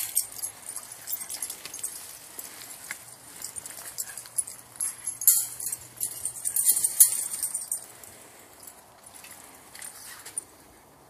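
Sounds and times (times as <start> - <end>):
dog tags and leash clips jingling: 0.0 - 10.6.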